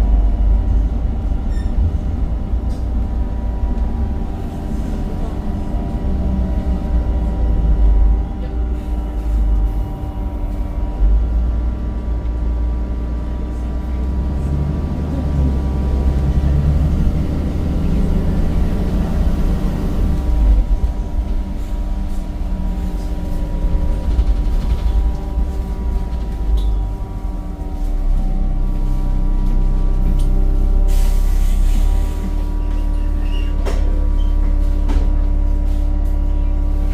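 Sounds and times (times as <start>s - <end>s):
bus engine rumbling: 0.0s - 36.9s.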